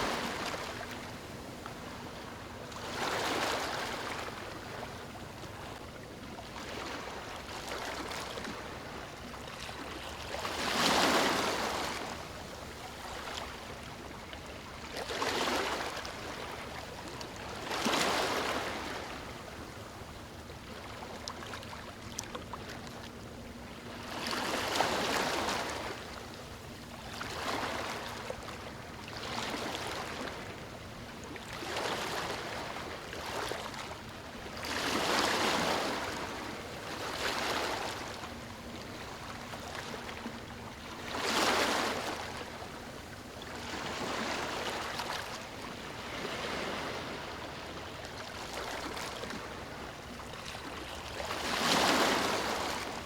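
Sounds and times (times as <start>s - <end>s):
ocean waves on beach: 0.0s - 5.8s, 6.4s - 21.7s, 23.8s - 53.0s.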